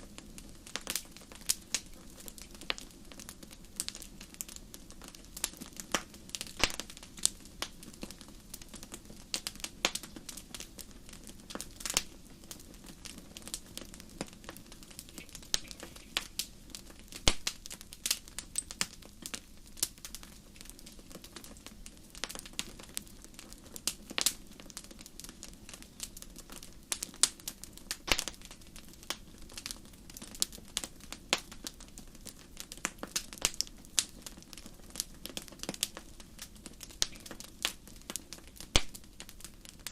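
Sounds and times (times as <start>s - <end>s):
campfire crackling and popping: 0.0s - 39.9s
low fire noise: 0.0s - 39.9s.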